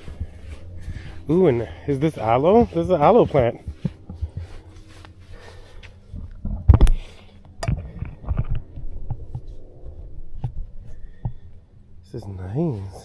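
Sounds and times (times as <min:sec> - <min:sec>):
microphone handling thumps: 0:00.0 - 0:05.2, 0:05.8 - 0:11.6.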